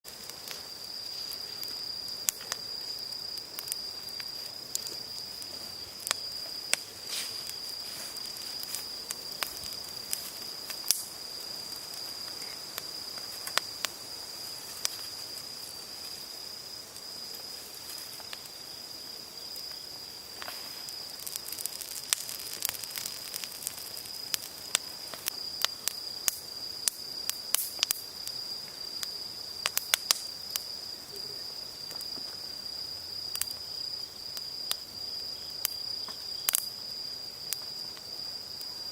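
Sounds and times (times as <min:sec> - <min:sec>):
campfire crackling and popping: 0:00.0 - 0:38.9
insects trilling: 0:00.1 - 0:38.9.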